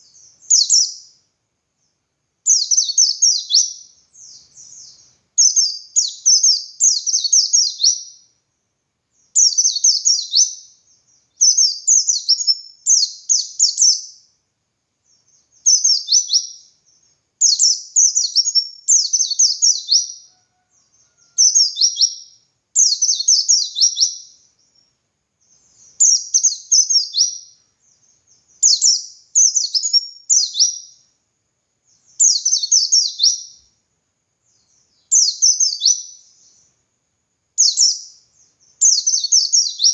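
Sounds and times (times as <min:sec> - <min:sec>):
bird singing rapid high chirps: 0:00.0 - 0:01.2, 0:02.4 - 0:08.3, 0:09.2 - 0:14.3, 0:15.1 - 0:20.3, 0:21.2 - 0:31.1, 0:31.9 - 0:33.7, 0:34.5 - 0:36.7, 0:37.6 - 0:39.9.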